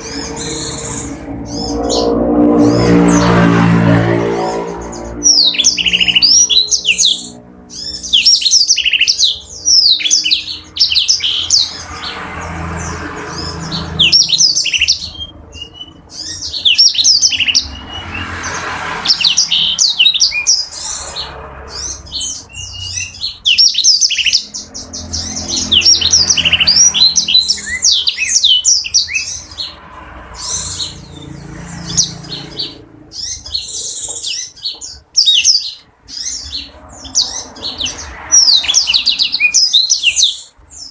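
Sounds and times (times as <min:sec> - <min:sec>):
canary twittering song: 0:00.0 - 0:40.9.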